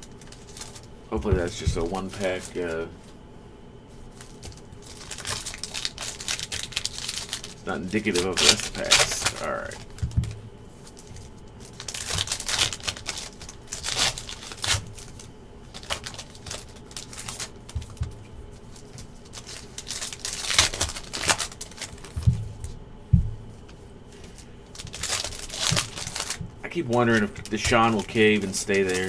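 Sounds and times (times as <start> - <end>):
foil wrappers crinkling: 0.0 - 2.9, 4.0 - 22.8, 23.4 - 29.0.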